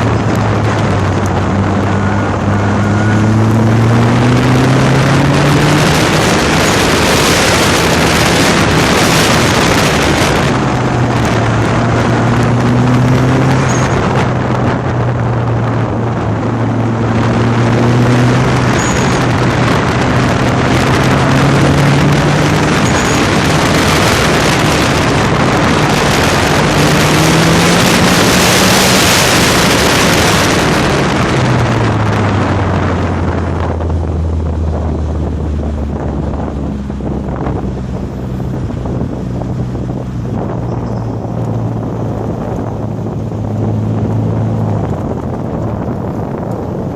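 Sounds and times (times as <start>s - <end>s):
car engine accelerating: 0.0s - 46.9s
wind noise on microphone: 0.0s - 46.9s.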